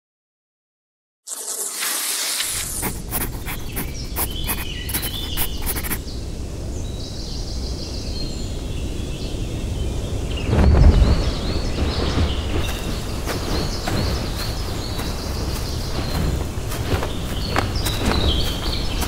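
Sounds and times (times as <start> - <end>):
steady low rumble: 2.9 - 19.0.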